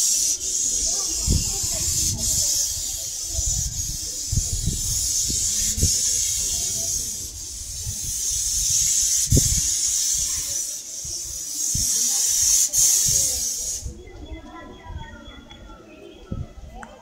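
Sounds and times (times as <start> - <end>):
paint spray gun hissing: 0.0 - 13.9.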